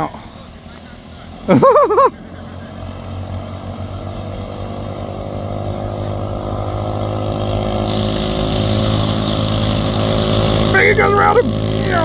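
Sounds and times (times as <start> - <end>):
mini bike engines running: 0.0 - 12.0.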